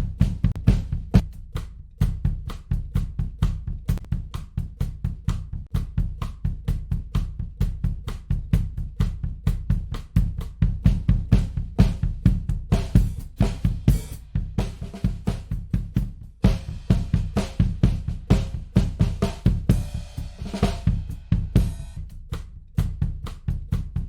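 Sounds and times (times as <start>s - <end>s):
drum kit beat: 0.0s - 24.0s.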